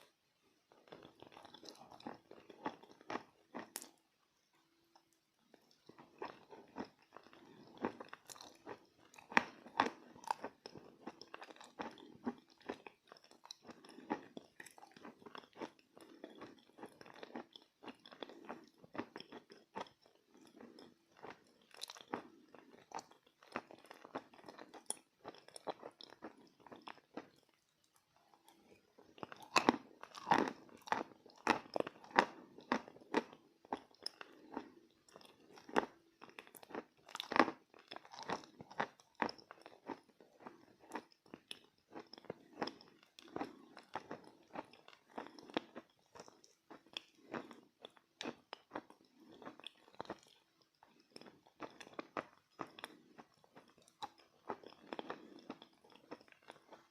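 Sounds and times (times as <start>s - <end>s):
chalk crunching while chewed: 0.8s - 4.0s, 5.5s - 56.9s.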